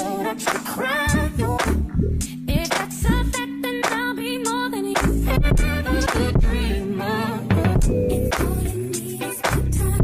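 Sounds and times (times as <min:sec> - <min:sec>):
soul song with singing: 0:00.0 - 0:10.0.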